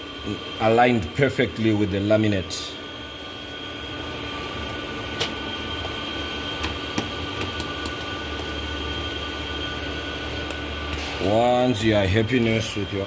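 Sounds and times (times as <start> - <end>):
printer humming: 0.0 - 13.0.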